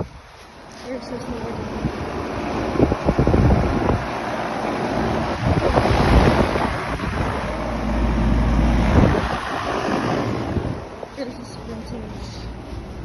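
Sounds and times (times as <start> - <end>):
wind buffeting microphone: 0.0 - 11.2
air conditioner fan rushing: 0.0 - 11.3.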